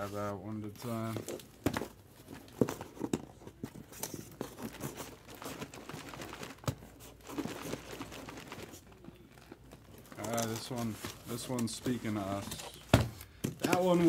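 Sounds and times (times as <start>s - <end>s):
cardboard rustling: 0.0s - 14.0s.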